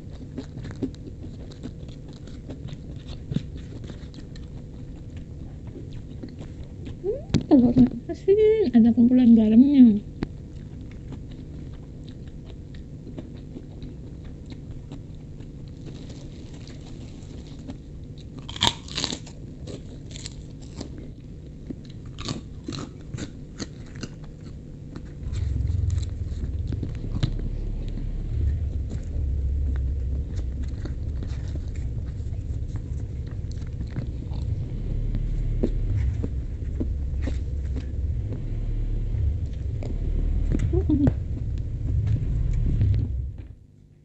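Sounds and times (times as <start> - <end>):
crunchy biting and chewing: 0.0 - 7.0, 10.2 - 39.4
steady low rumble: 0.0 - 18.6, 19.4 - 44.0.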